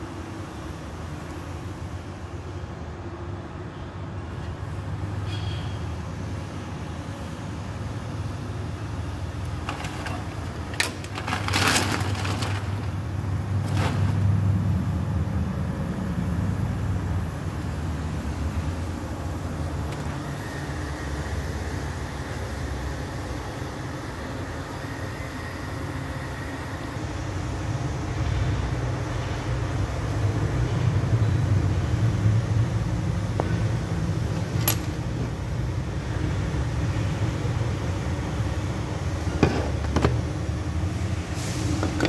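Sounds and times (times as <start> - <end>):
low mechanical rumble: 0.0 - 42.0.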